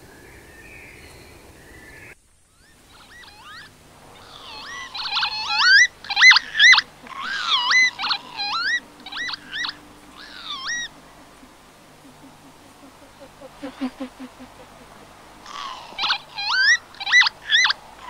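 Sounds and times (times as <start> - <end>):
whistled animal calls: 2.6 - 17.8.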